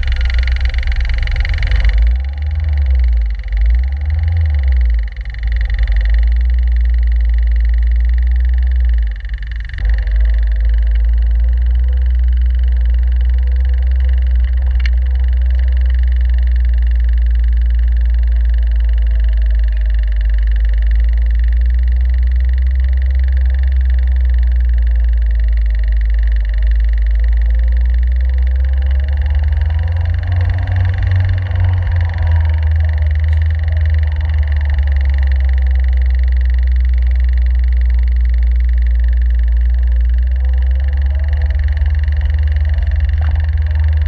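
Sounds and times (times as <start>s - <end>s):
car engine deep rumble: 0.0s - 44.0s.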